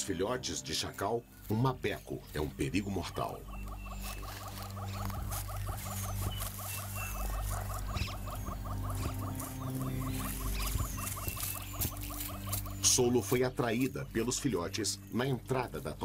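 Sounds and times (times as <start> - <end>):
insect trilling: 2.5 - 16.0.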